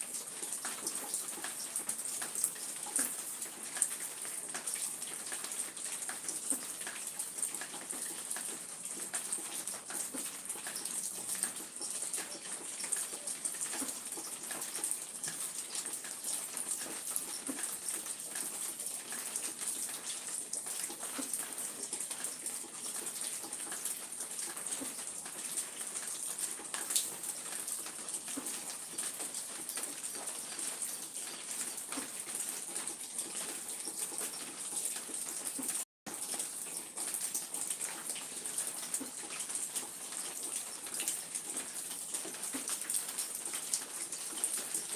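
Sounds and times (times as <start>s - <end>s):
raindrops tapping: 0.0s - 44.9s.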